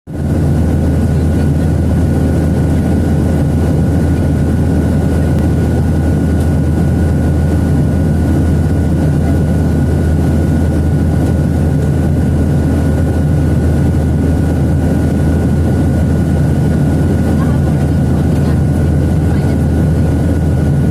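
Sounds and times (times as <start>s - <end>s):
airliner cabin rumble: 0.1s - 20.9s.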